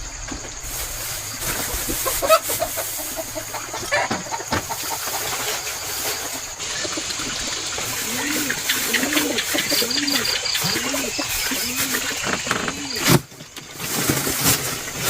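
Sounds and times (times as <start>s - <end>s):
steady hiss: 0.0s - 15.0s
chickens clucking: 0.1s - 15.0s.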